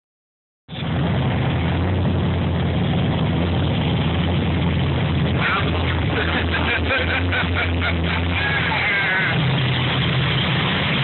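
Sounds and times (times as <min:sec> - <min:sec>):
car engine idling: 0:00.7 - 0:11.0.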